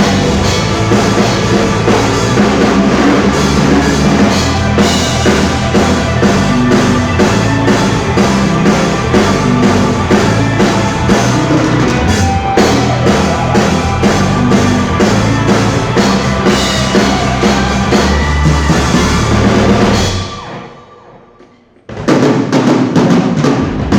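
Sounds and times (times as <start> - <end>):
drum kit beat: 0.0 - 20.6
rock band playing live: 0.0 - 20.8.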